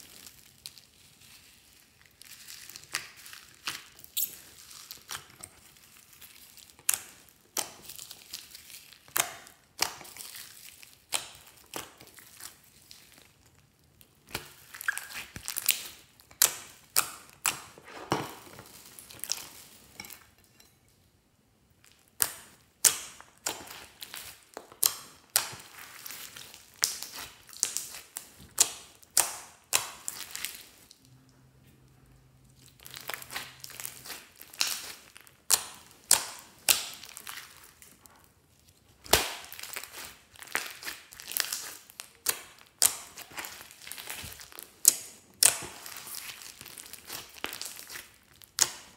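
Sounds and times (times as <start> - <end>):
slime with beads crackling: 0.0 - 20.3, 21.7 - 31.1, 32.2 - 48.9.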